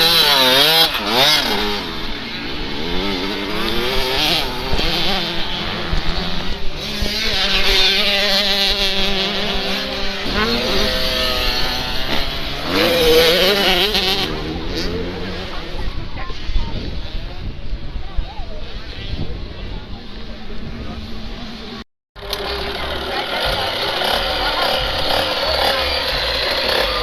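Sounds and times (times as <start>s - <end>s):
motocross engines revving: 0.0s - 27.0s.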